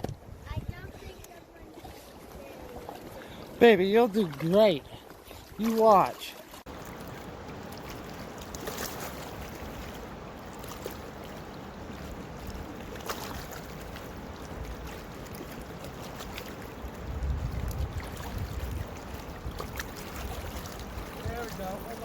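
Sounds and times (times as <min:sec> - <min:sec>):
wind rumbling on microphone: 0:00.0 - 0:03.6, 0:06.7 - 0:22.0
river water rushing: 0:01.0 - 0:22.0.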